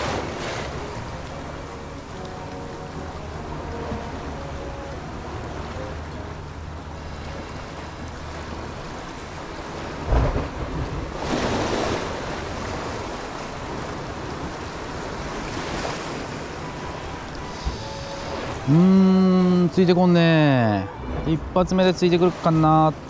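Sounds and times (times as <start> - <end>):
waves splashing against wall: 0.0 - 23.0.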